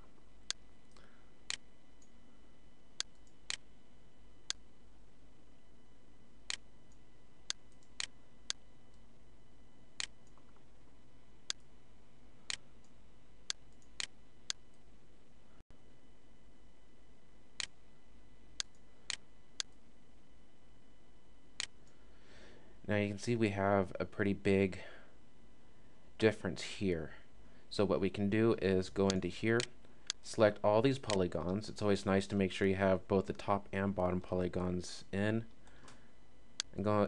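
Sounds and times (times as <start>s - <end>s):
steady faint hum: 0.0s - 37.0s.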